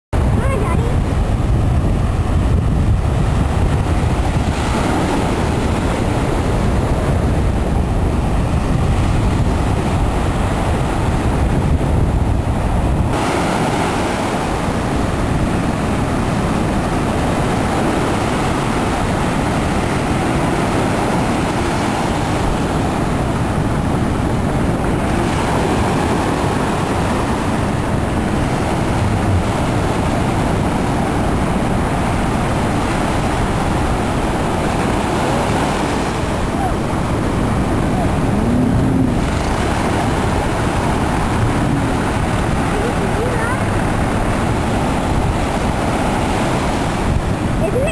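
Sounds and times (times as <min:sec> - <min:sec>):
wind buffeting microphone: 0:00.1 - 0:47.9
surf breaking on beach: 0:00.2 - 0:47.9.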